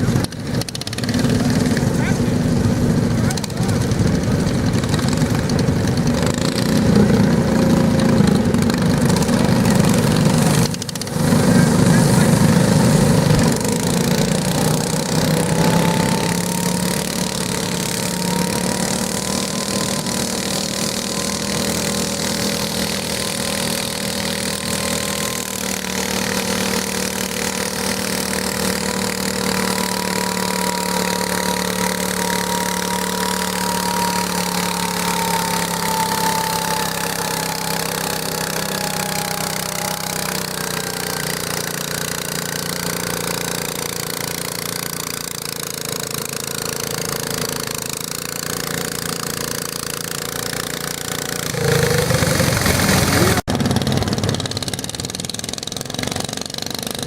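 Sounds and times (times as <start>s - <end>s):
high engine whine: 0.0s - 57.0s
tractor engine running under load: 0.0s - 57.0s.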